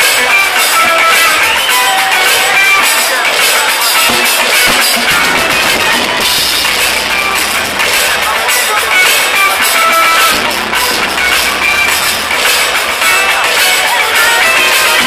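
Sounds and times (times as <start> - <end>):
drums and cymbals: 0.0 - 15.0
electric guitar notes: 0.0 - 15.0.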